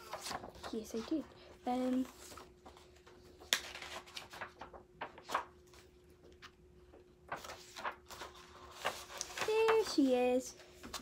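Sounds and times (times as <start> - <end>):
pages being turned: 0.0 - 6.6, 7.2 - 11.0.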